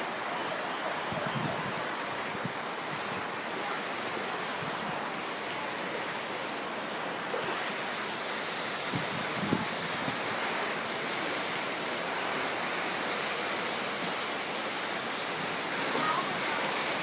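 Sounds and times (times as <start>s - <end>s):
storm wind and rain: 0.0s - 17.0s.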